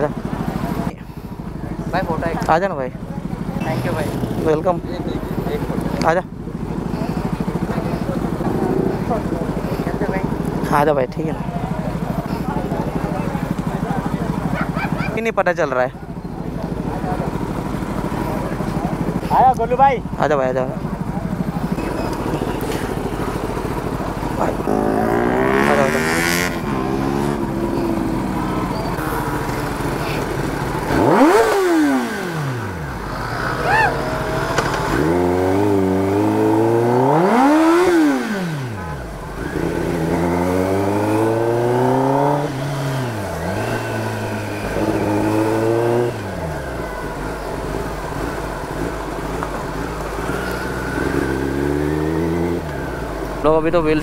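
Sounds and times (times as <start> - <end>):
motorcycle engine revving: 0.0 - 54.0
motorcycle engine running: 0.0 - 54.0.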